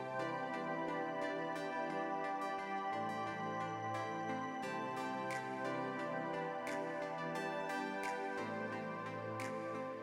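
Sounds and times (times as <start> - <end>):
soft instrumental background music: 0.0 - 10.0.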